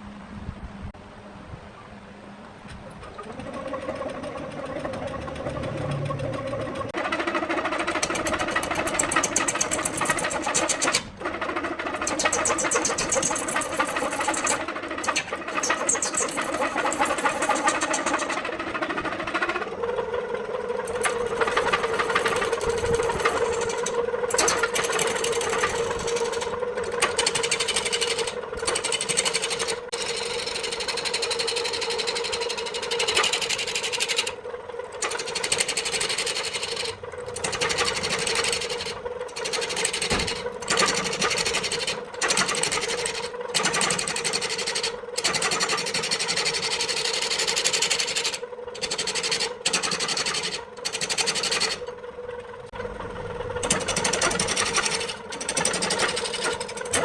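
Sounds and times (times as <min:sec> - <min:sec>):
electric woodworking machine running: 0:02.7 - 0:57.0.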